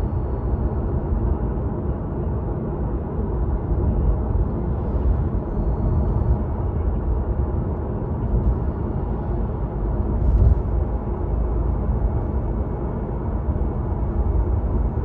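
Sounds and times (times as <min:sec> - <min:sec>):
car road rumble: 0:02.6 - 0:15.0.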